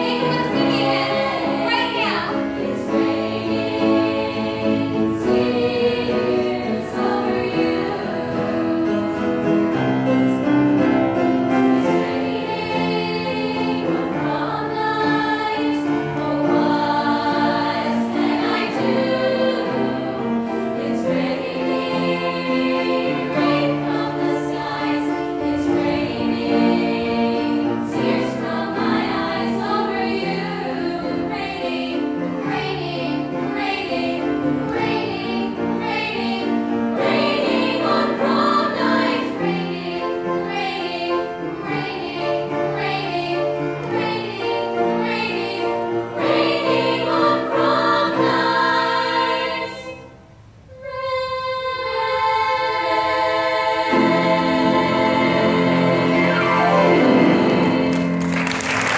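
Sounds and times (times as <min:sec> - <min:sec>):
women's choir singing in harmony: 0:00.0 - 0:58.9.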